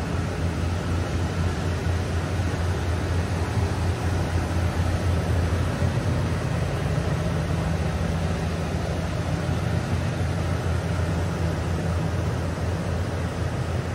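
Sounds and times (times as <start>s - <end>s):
pickup engine idling: 0.0s - 13.9s.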